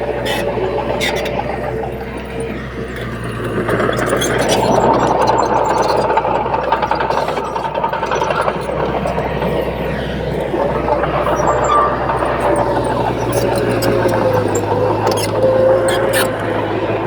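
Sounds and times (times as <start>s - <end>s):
bulldozer engine rumble: 0.0s - 17.0s
metallic squealing of tracks: 0.0s - 17.0s.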